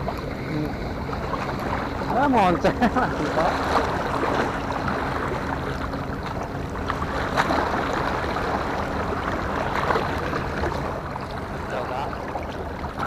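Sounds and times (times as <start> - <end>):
low steady hum: 0.0 - 13.0
wind and sea-water noise: 0.0 - 13.0.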